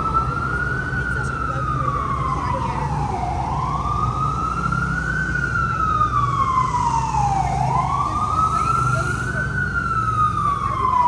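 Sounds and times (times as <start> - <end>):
emergency siren wailing: 0.0 - 11.0
low traffic rumble: 0.0 - 11.0.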